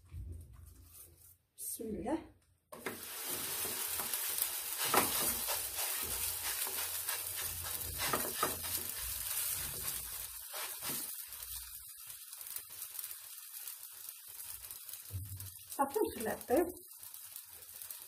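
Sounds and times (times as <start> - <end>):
dough sizzling in a frying pan: 2.8 - 18.0.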